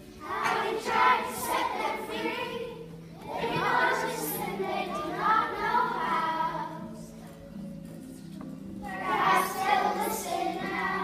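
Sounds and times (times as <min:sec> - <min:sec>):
children singing: 0:00.0 - 0:07.4, 0:08.8 - 0:11.0.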